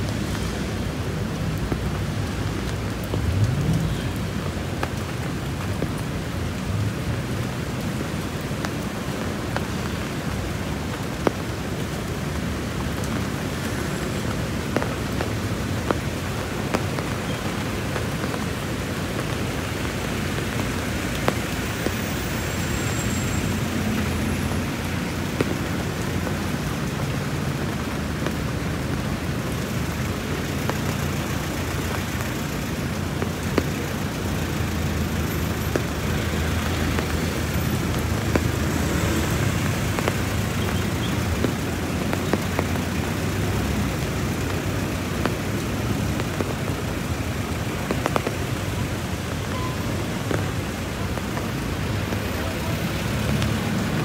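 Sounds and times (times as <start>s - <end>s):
road traffic: 0.0s - 54.0s
steady rain falling: 0.0s - 54.0s.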